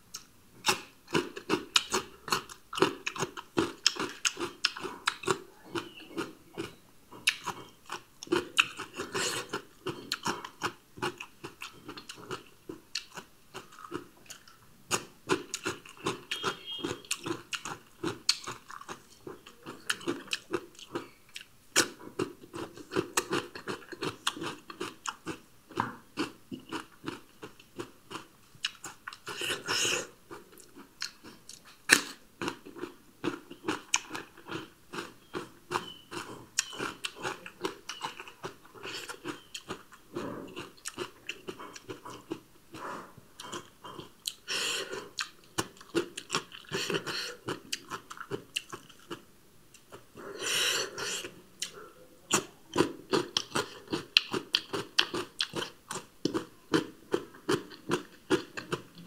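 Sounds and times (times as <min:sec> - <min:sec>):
crunching and chewing raw vegetables: 0:00.1 - 0:59.0.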